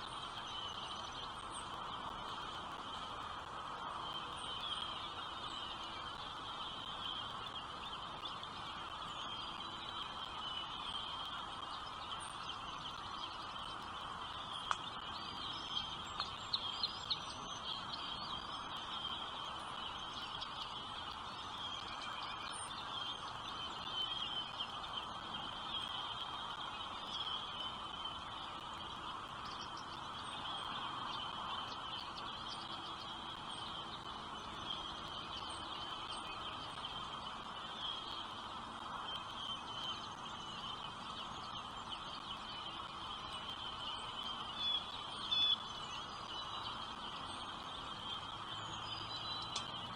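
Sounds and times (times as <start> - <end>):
background hiss: 0.0 - 49.9
sharp chirps and clicks: 0.0 - 49.9.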